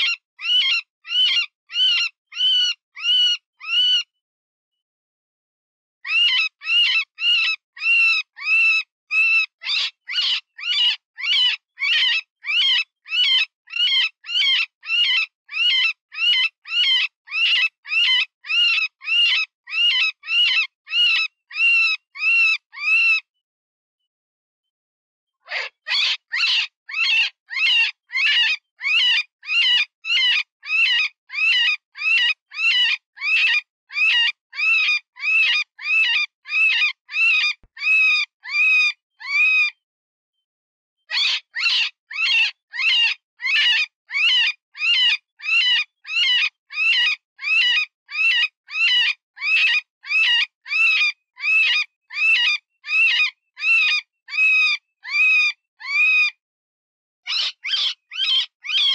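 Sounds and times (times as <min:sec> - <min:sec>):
rabbit shrill squeals: 0:00.0 - 0:04.1, 0:06.1 - 0:23.2, 0:25.5 - 0:39.8, 0:41.1 - 0:56.4, 0:57.3 - 0:58.9.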